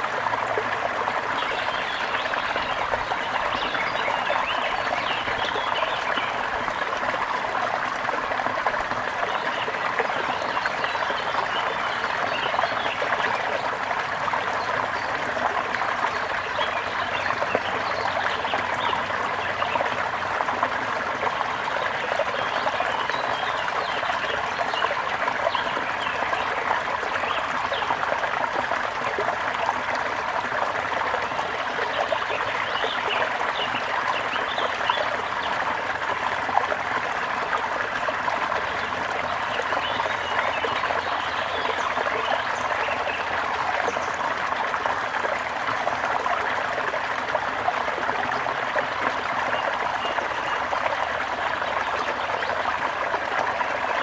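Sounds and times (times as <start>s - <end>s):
brook water babbling: 0.0s - 54.0s.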